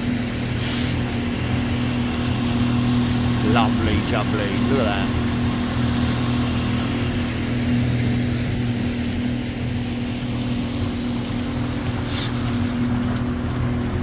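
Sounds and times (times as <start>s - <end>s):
water hissing: 0.0s - 13.1s
boat engine droning: 0.0s - 14.0s
wind: 0.0s - 14.0s.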